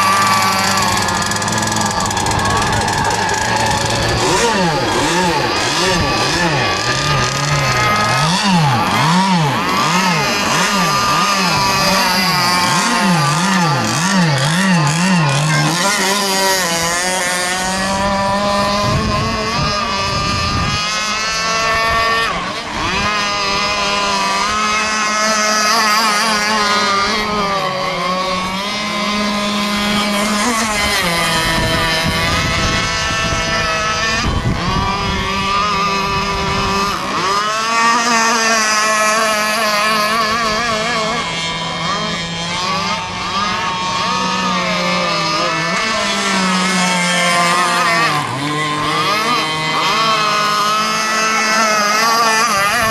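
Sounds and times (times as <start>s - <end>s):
two-stroke boat engine revving: 0.0s - 52.9s.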